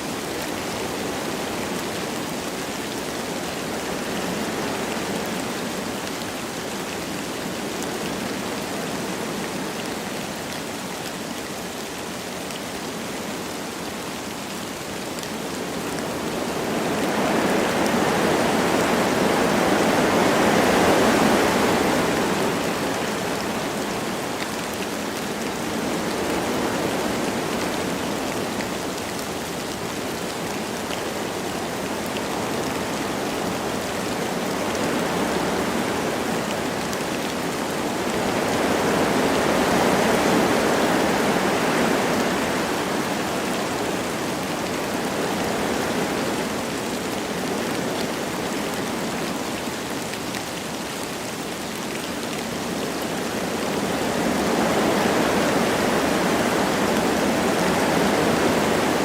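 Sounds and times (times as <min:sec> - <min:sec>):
light rain falling: 0:00.0 - 0:59.0
wind blowing through trees: 0:00.0 - 0:59.0.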